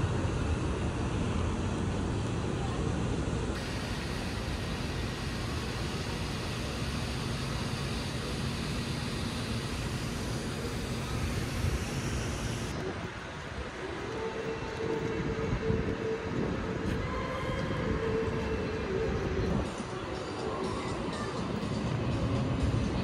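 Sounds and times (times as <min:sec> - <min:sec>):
train rumbling on rails: 0:00.0 - 0:23.0
train whine: 0:00.0 - 0:23.0.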